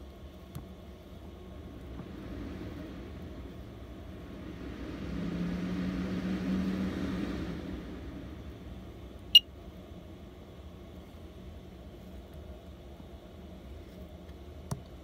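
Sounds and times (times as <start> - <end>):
ventilation fan humming: 0.0 - 15.0.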